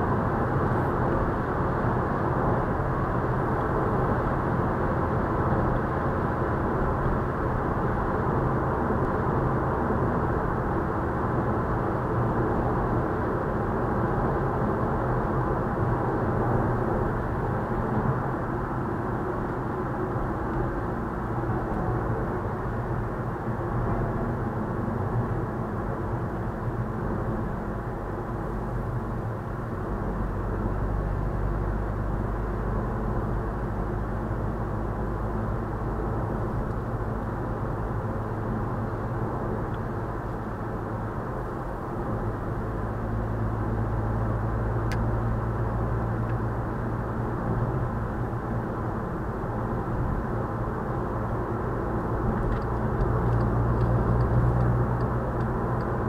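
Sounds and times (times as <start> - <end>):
car cabin road and engine noise: 0.0 - 56.0.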